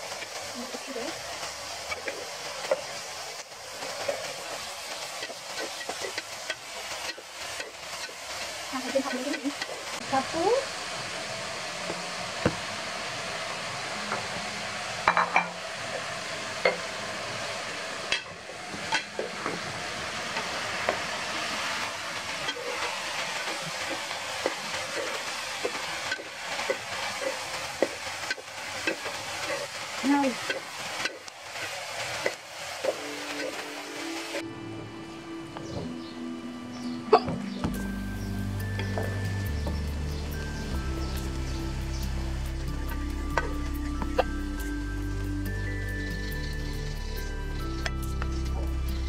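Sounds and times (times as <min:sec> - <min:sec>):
stir-fry sizzling in a skillet: 0:00.0 - 0:34.5, 0:36.8 - 0:49.0.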